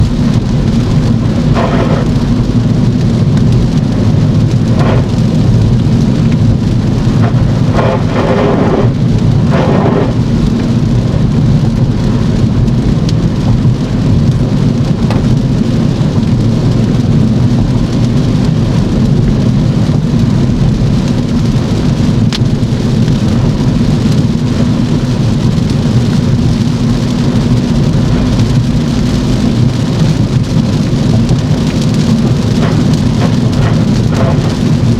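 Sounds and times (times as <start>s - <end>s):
heavy rain hiss: 0.0s - 34.9s
low rumble of car: 0.0s - 34.9s
wet road noise: 0.0s - 34.9s.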